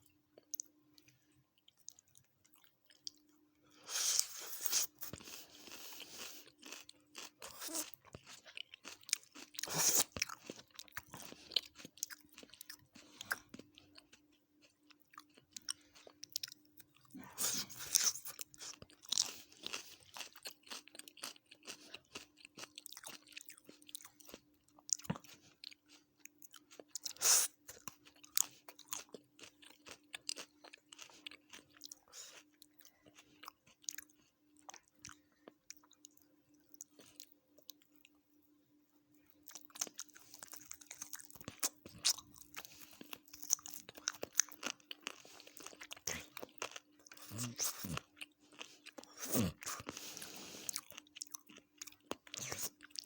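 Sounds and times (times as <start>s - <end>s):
person chewing and crunching food: 0.0s - 53.0s.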